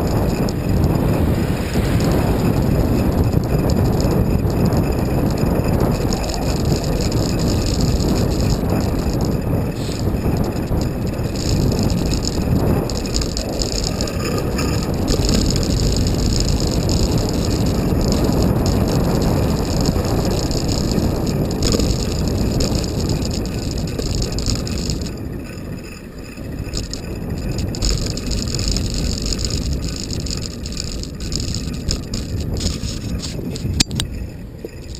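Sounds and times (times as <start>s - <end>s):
bicycle road noise on wet tarmac: 0.0s - 34.9s
wind rushing over microphone: 0.0s - 34.9s.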